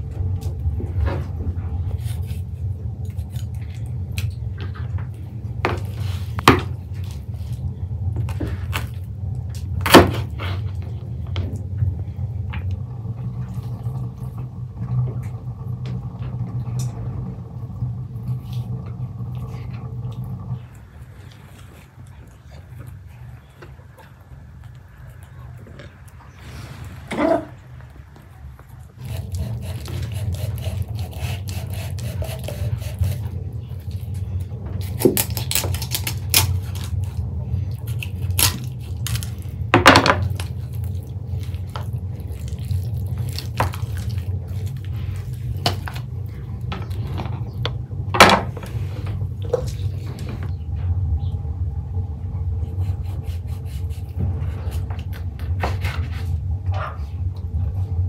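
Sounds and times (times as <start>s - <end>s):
low rumble: 0.0s - 31.2s, 32.8s - 58.0s.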